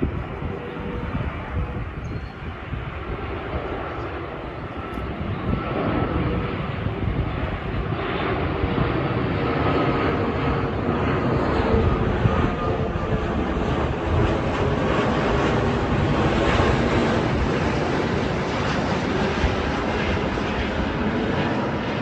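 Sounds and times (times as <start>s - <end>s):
jet aircraft roaring overhead: 0.0s - 22.0s.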